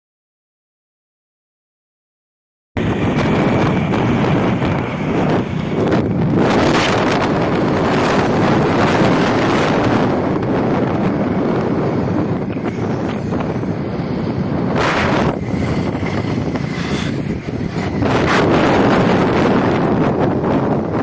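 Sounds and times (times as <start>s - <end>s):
wind buffeting microphone: 2.8s - 21.0s.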